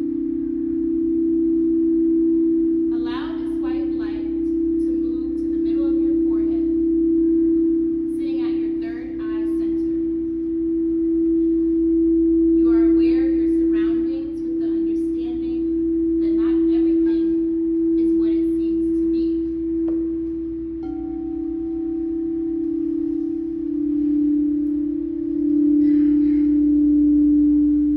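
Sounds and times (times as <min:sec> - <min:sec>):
second lower singing bowl tone: 0:00.0 - 0:27.9
singing bowl ringing: 0:00.0 - 0:27.9.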